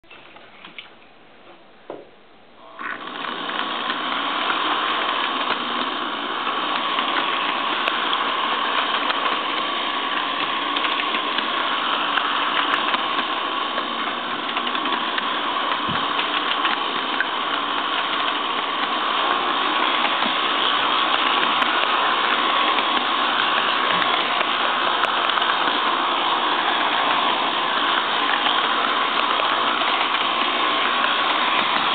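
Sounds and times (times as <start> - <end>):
model train motor whine: 2.6 - 31.9.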